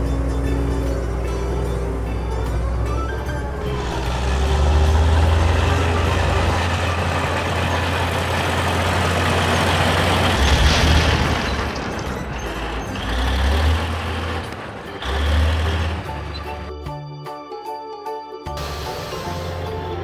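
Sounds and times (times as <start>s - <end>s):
excavator engine rumbling: 0.0s - 17.0s.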